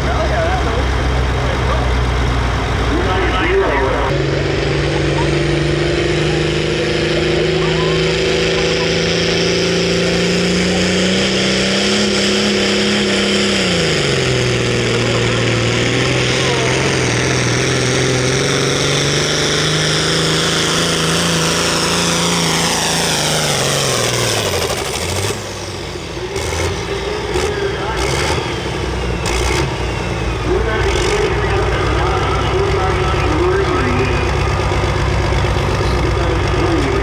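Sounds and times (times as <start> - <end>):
tractor diesel engine at full throttle: 0.0 - 37.0.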